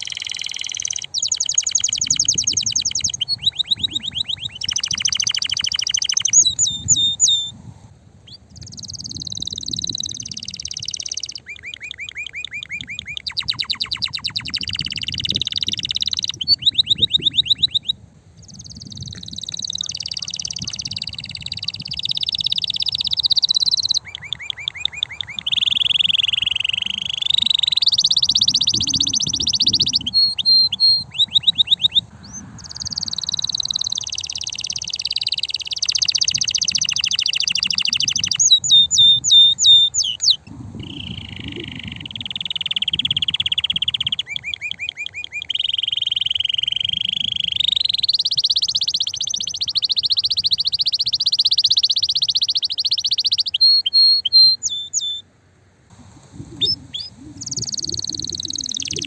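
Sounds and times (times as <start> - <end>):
canary singing trills: 0.0 - 55.2, 56.0 - 59.0.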